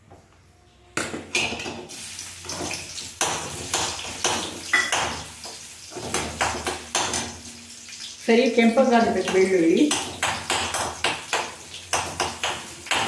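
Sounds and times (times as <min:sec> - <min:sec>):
garlic sizzling in hot oil: 0:01.8 - 0:13.0.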